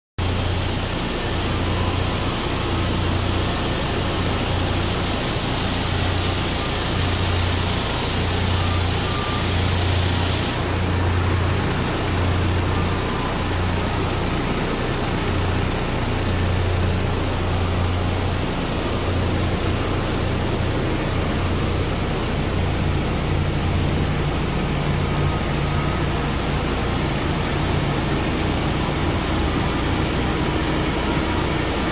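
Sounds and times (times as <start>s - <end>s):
machine drone with throbbing hum: 0.2s - 31.9s
hiss of vibrating screens: 0.3s - 31.9s.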